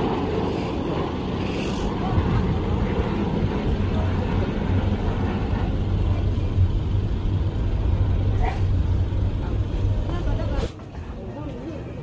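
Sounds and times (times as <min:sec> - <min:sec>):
faint voices: 0:00.0 - 0:12.0
jet engines rumbling: 0:00.0 - 0:12.0.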